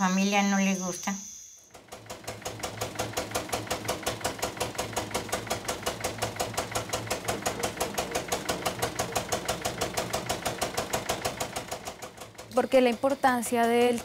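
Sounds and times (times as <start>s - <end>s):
gasoline engine running: 1.7s - 14.0s.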